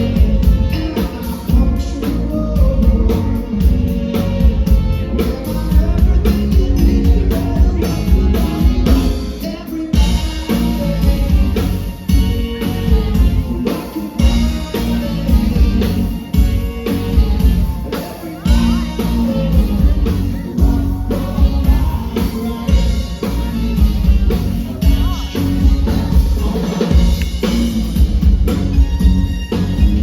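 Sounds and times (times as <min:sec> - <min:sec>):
song with singing drums and guitar: 0:00.0 - 0:30.0.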